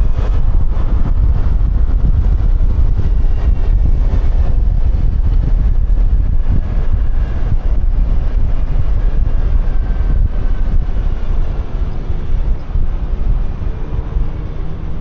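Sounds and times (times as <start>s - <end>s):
road noise: 0.0s - 15.0s
scooter engine: 0.0s - 15.0s
wind buffeting microphone: 0.0s - 15.0s.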